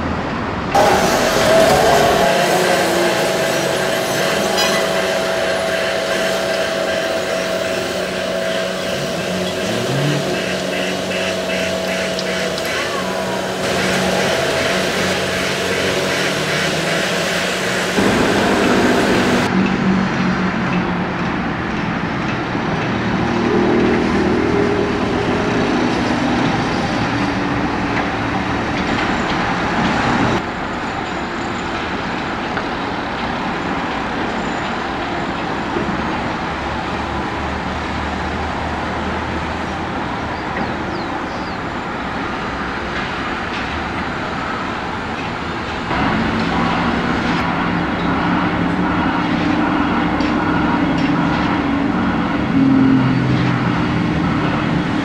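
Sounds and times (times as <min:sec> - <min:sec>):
heavy diesel machinery engine drone: 0:00.0 - 0:55.0.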